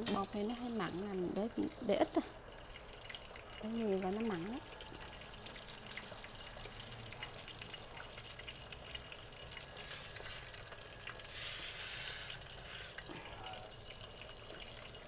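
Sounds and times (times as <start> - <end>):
chicken sizzling in oil: 0.0 - 15.0
louder hiss of frying: 0.0 - 15.0.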